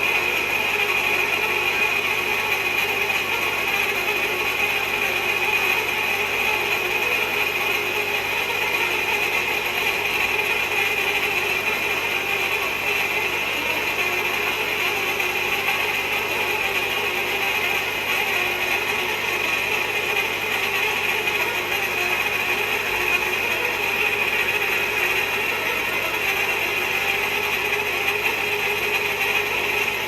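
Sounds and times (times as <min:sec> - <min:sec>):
steady mechanical noise: 0:00.0 - 0:30.0.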